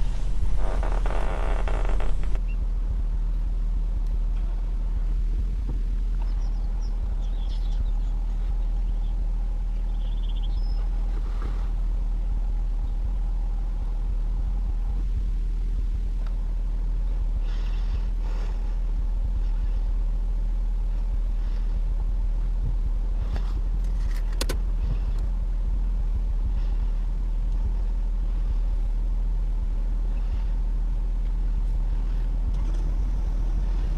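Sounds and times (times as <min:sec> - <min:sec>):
vehicle engine idling: 0:00.0 - 0:33.9.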